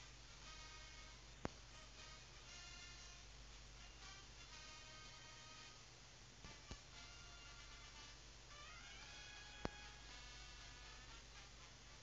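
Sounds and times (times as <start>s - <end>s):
faint music: 0.0s - 12.0s.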